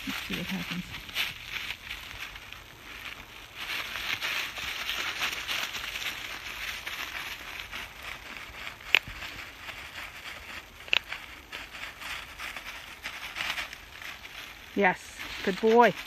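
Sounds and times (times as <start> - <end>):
leaves crackling underfoot: 0.0 - 16.0.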